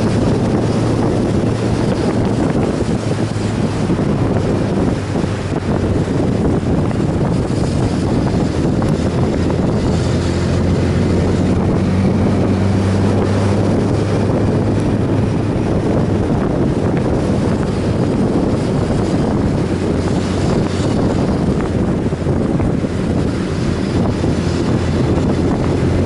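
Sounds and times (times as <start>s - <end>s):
motorcycle engine drone: 0.0s - 26.0s
wind rushing over microphone: 0.0s - 26.0s.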